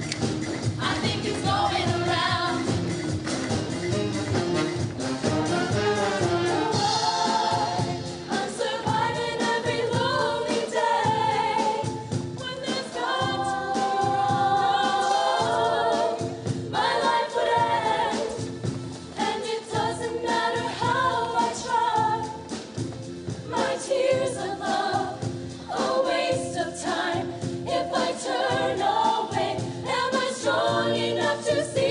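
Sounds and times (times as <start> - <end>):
instrumental accompaniment with beat: 0.0 - 31.9
choir singing: 0.7 - 3.1, 5.6 - 22.6, 23.4 - 31.9.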